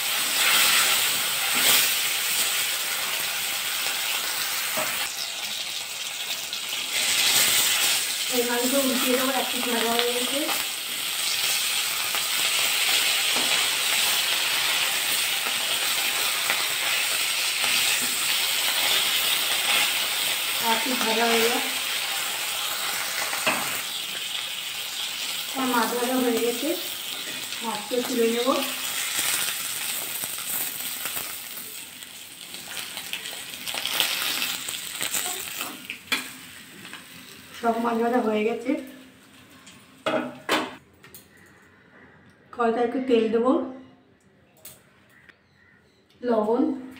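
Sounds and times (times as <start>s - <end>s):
fish sizzling in hot oil: 0.0s - 38.1s.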